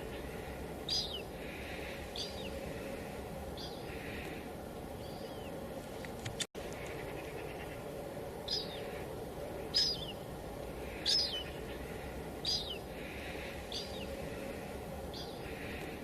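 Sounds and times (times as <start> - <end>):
bird calling: 0.0 - 5.7, 6.6 - 16.0
light rain hissing: 0.0 - 16.0.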